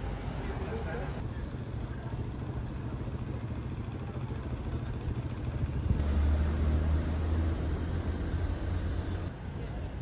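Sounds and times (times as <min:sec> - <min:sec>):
bus engine running close: 0:00.0 - 0:10.0
low rumble of road traffic: 0:00.0 - 0:10.0.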